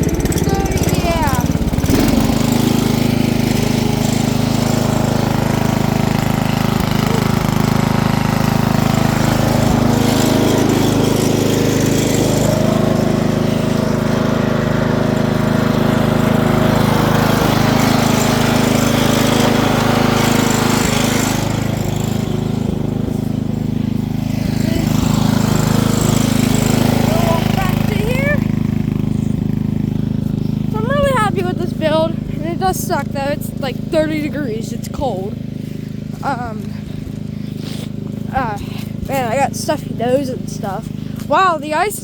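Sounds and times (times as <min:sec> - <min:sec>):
small engine humming: 0:00.0 - 0:42.0.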